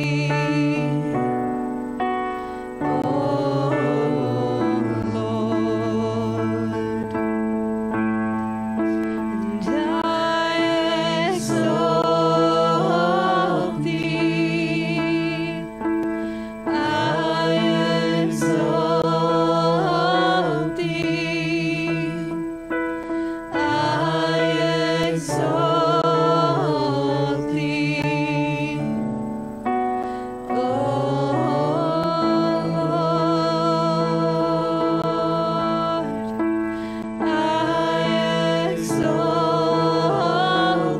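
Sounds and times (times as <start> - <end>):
group singing: 0.0 - 1.4, 2.8 - 7.2, 8.9 - 15.8, 16.7 - 22.4, 23.5 - 29.2, 30.0 - 40.9
electronic keyboard chords: 0.0 - 40.9.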